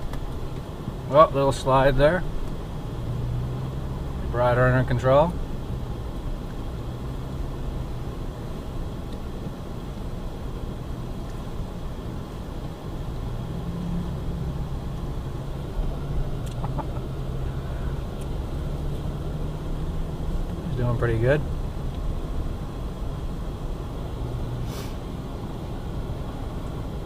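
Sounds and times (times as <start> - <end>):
tyre and road noise: 0.0 - 27.0
vehicle engine running: 0.0 - 27.0.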